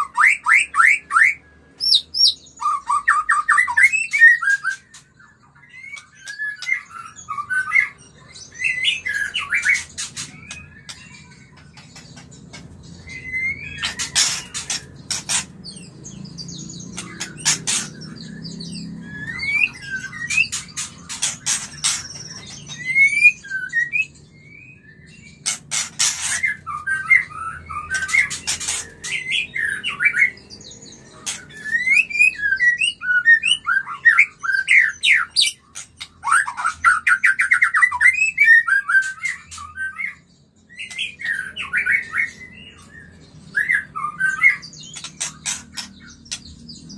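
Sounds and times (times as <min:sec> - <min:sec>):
songbird whistling and chirping: 0:00.0 - 0:46.9.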